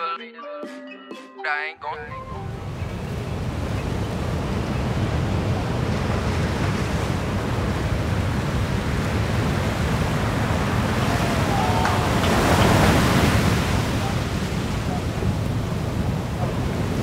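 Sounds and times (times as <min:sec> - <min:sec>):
ocean surf breaking: 0:02.1 - 0:17.0
wind on microphone: 0:02.4 - 0:17.0.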